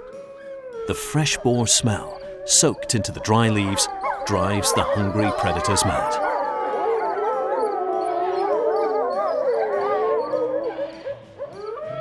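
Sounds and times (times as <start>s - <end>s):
wolves howling in chorus: 0.0s - 12.0s.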